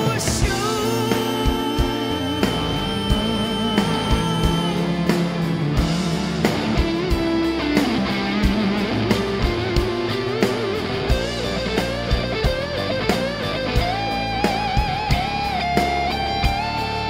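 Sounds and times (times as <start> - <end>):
bass guitar: 0.0 - 17.0
drum beat: 0.0 - 17.0
electric guitar lead: 0.0 - 17.0.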